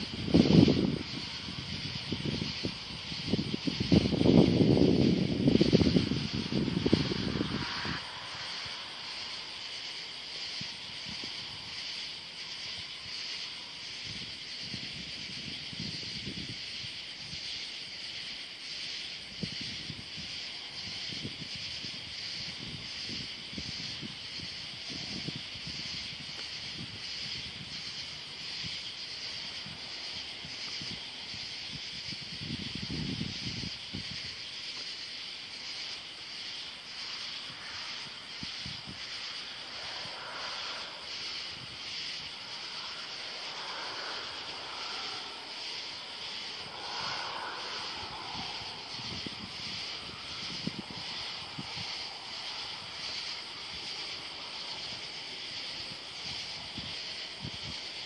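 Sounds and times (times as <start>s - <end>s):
crickets and insects buzzing: 0.0s - 58.0s.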